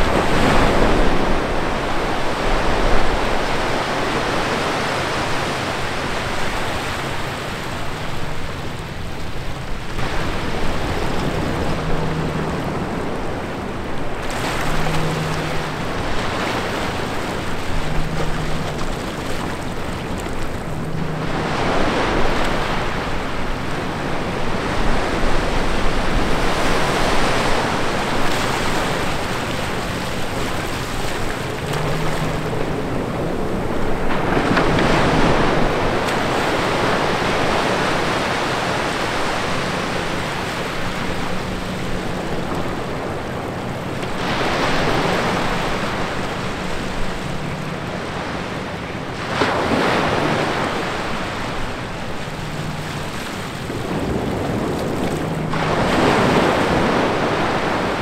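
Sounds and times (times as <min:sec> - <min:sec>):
waves breaking on rocks: 0:00.0 - 0:58.0.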